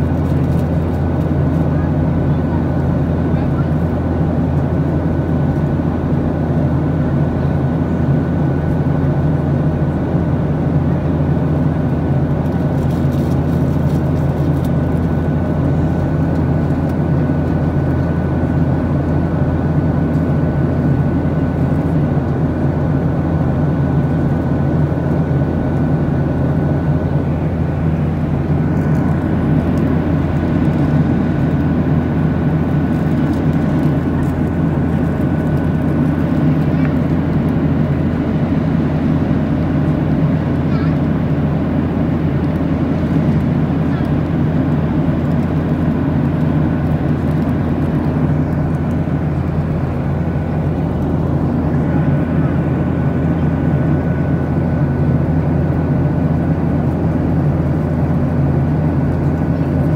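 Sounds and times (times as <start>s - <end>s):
jet cabin drone: 0.0s - 59.9s
thin steady engine whine: 0.0s - 59.9s.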